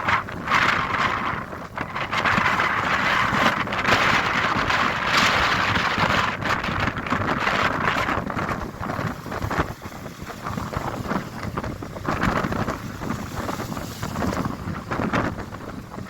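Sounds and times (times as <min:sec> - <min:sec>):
constant low rumble: 0:00.0 - 0:16.0
wind buffeting microphone: 0:00.0 - 0:16.0.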